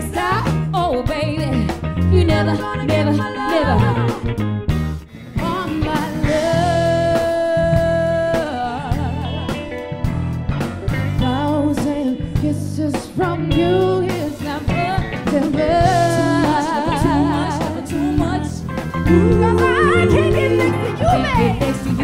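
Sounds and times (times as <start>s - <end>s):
women singing soul: 0.0s - 4.4s, 5.4s - 9.4s, 11.2s - 22.0s
backing band: 0.0s - 22.0s.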